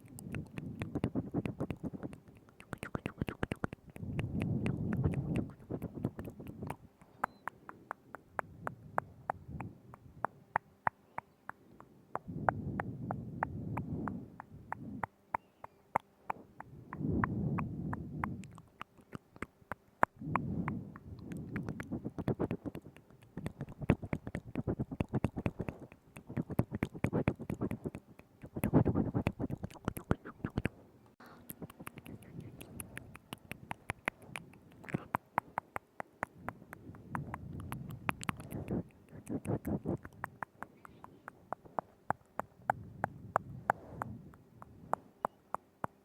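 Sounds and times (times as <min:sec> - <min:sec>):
wet mouth clicks and smacks: 0:00.0 - 0:30.7, 0:31.3 - 0:46.0.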